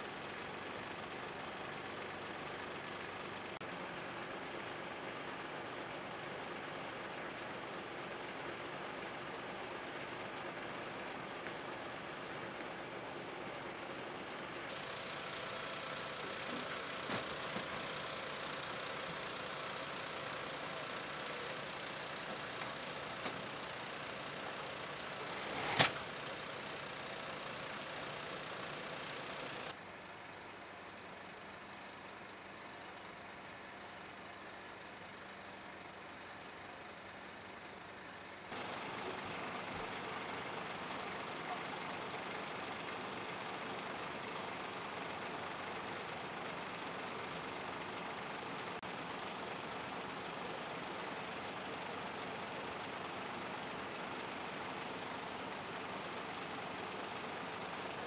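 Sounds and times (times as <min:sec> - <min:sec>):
fire engines idling: 0:00.0 - 0:58.0.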